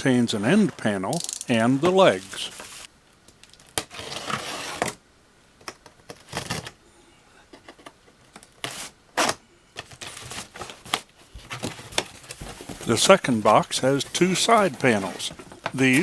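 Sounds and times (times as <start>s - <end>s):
cardboard packaging rustling: 0.4s - 5.0s, 7.6s - 16.0s.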